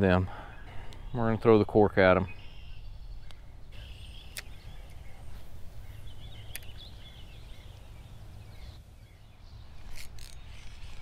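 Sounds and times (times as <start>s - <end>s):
faint bird calls: 2.1s - 11.0s.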